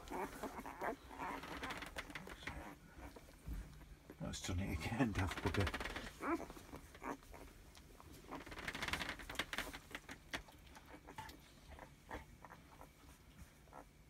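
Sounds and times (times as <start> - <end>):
puppies squeaking and grunting: 0.0 - 14.0.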